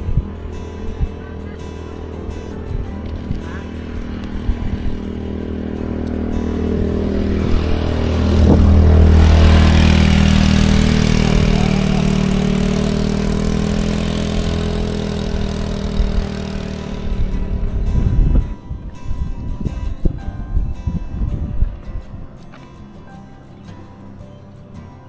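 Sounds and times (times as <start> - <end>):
motor scooter engine passing: 0.0 - 24.8.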